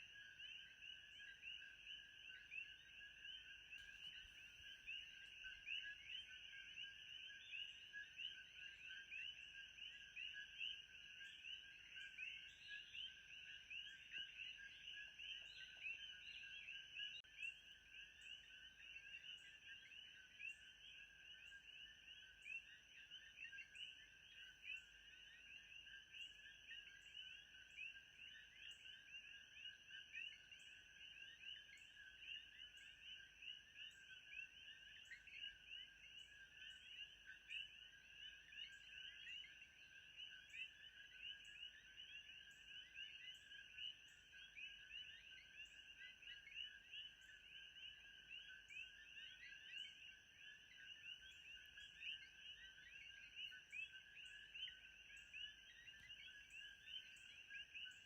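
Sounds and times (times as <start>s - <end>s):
night chorus of chirps: 0.0s - 58.0s.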